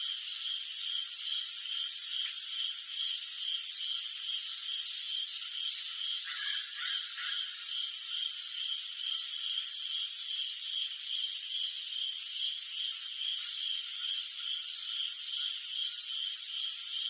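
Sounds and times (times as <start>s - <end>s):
crickets chirping: 0.0s - 17.0s
high insect hiss: 0.0s - 17.0s.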